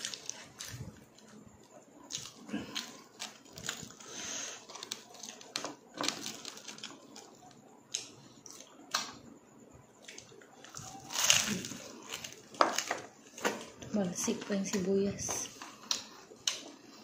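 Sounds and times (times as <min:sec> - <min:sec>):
crispy fried food crackling: 0:00.0 - 0:09.3, 0:09.9 - 0:17.0.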